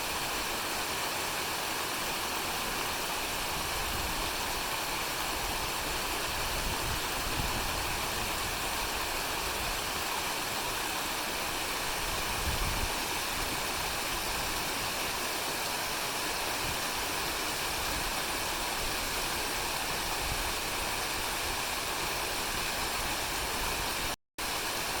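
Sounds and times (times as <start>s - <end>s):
waterfall pouring and splashing: 0.0s - 25.0s.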